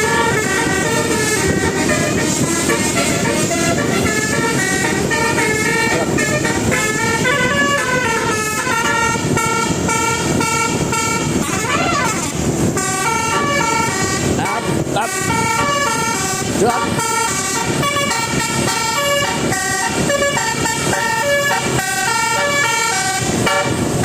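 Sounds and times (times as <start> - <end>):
multi-trumpet bus horn playing a tune: 0.0 - 24.0.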